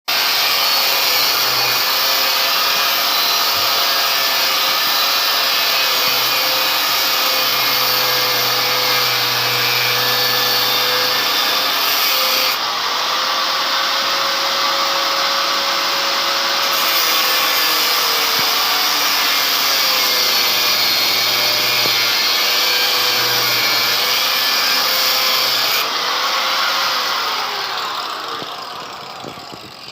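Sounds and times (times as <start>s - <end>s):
power tool grinding metal: 0.1s - 29.9s.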